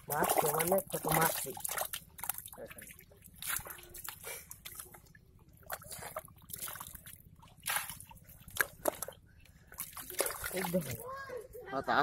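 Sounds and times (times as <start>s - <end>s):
muddy water sloshing and splashing: 0.0s - 11.7s.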